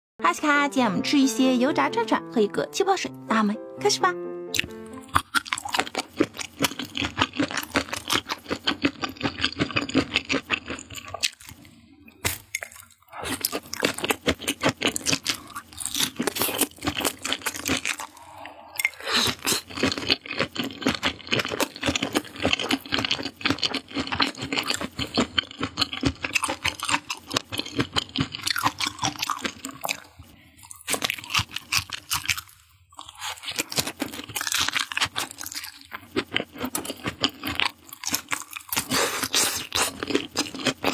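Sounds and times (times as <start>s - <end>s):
crunching fried food: 4.6s - 40.9s.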